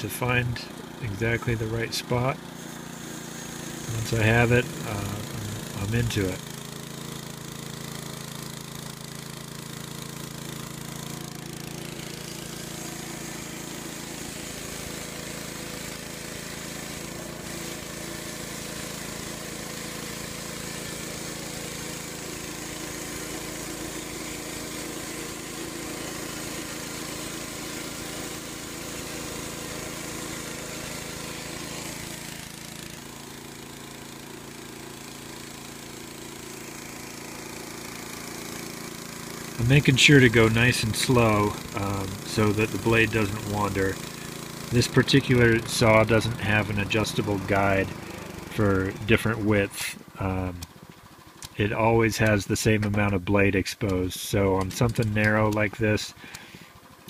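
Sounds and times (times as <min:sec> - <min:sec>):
bandsaw blade cutting log: 0:00.0 - 0:56.8
small gasoline engine running: 0:00.0 - 0:57.0.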